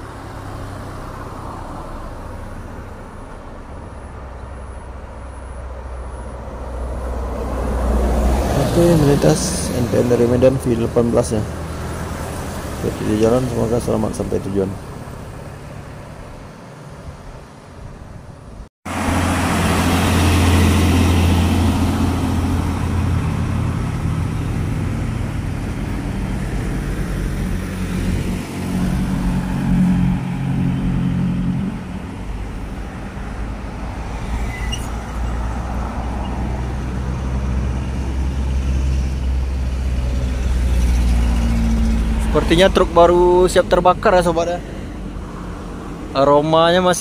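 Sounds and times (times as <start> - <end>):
motorcycles passing: 0.0 - 17.2, 18.9 - 47.0
faint traffic: 0.0 - 47.0
truck engine rumbling: 0.0 - 47.0.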